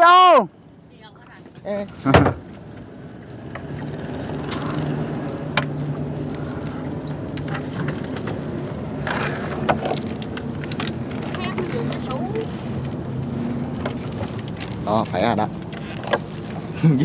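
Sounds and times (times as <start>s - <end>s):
small boat engine humming: 0.5s - 17.0s.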